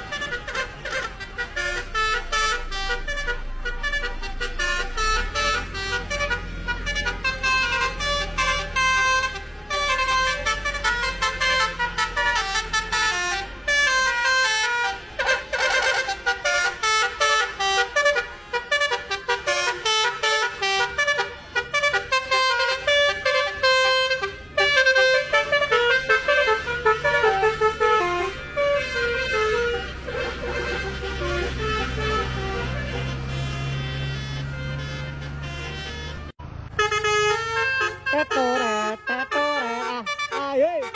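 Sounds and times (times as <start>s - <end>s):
low engine rumble: 0.0s - 40.9s
multi-tone musical bus horn: 0.0s - 40.9s.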